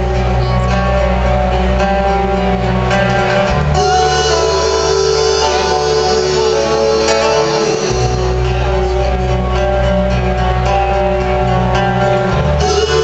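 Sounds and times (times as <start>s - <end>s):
deep bass: 0.0s - 13.0s
live rock band through sound system: 0.0s - 13.0s.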